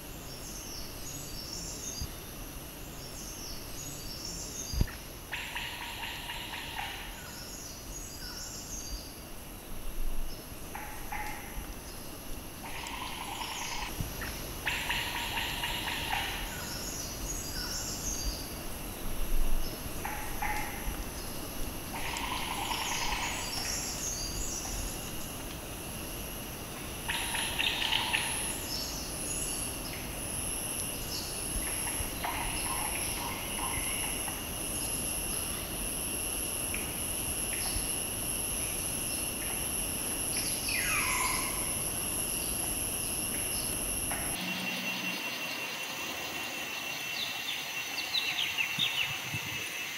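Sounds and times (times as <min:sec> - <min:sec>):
high-pitched insect drone: 0:00.0 - 0:49.9.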